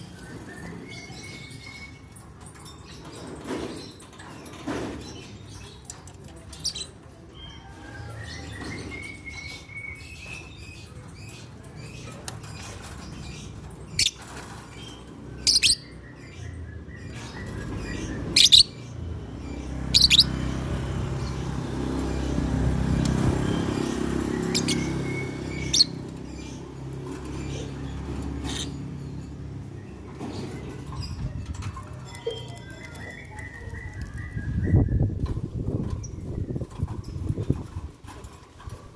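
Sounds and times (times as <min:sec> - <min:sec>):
lovebirds chirping: 0:00.0 - 0:37.7.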